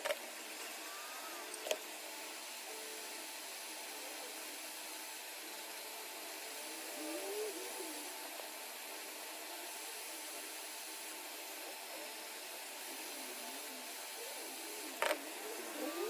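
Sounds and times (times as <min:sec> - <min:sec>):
hot-air station blowing hiss: 0:00.0 - 0:16.0.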